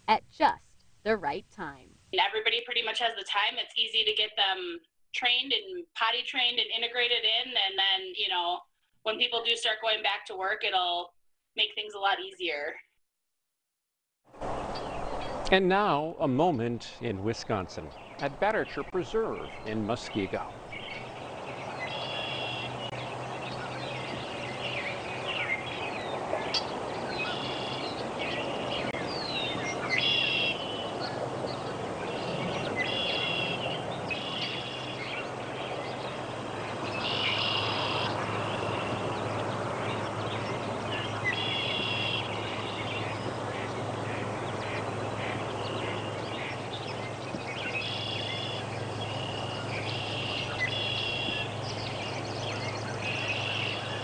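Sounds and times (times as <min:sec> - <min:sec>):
outdoor noise: 0:00.0 - 0:13.0, 0:14.2 - 0:54.0.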